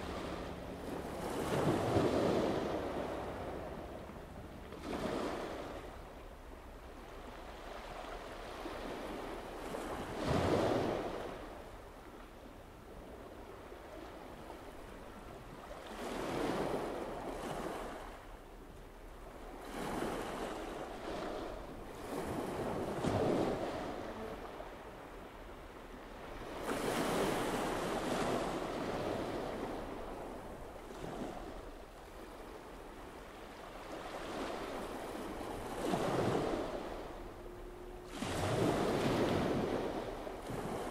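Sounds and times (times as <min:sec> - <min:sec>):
sea: 0:00.0 - 0:40.9
wind: 0:00.0 - 0:40.9.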